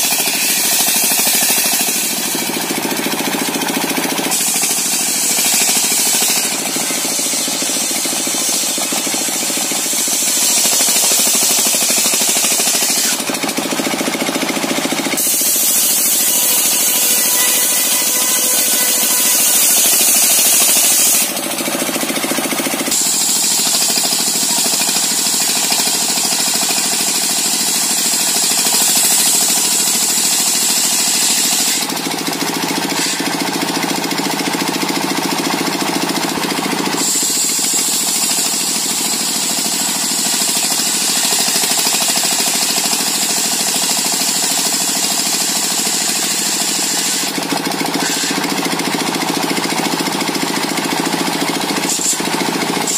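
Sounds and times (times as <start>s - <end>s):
circular saw cutting wood: 0.0s - 52.9s.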